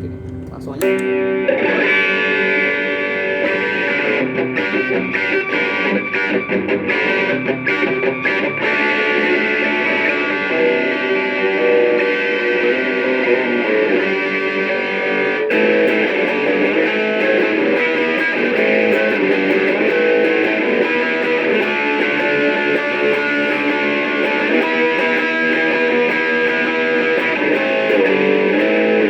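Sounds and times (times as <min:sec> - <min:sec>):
distorted electric guitar: 0:00.0 - 0:29.0.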